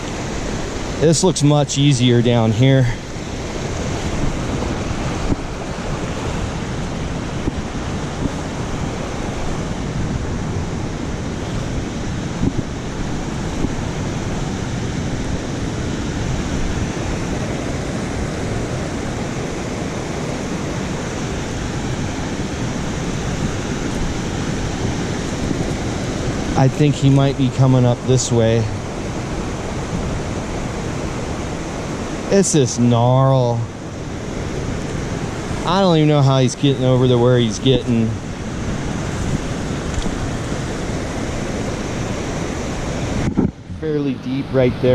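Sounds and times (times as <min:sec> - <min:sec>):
creek water rushing: 0:00.0 - 0:44.9.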